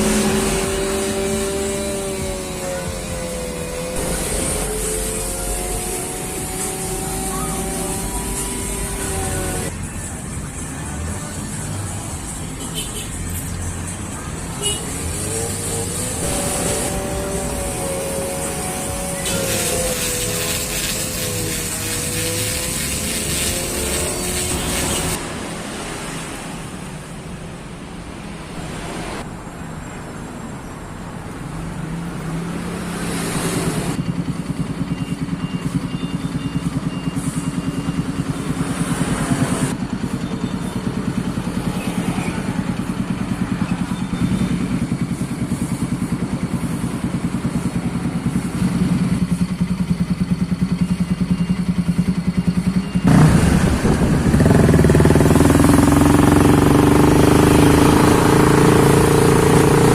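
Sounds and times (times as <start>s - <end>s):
motorcycle engine running steadily: 0.0s - 25.2s, 33.8s - 59.9s.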